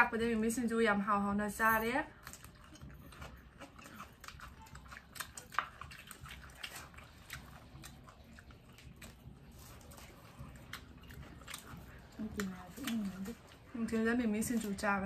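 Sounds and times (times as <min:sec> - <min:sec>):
crispy fritters crunching: 0:02.1 - 0:15.0.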